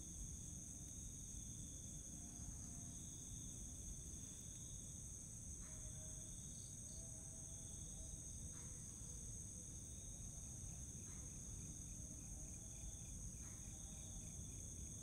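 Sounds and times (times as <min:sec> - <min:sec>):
low rumble of recording noise: 0:00.0 - 0:15.0
night insects chirring: 0:00.0 - 0:15.0.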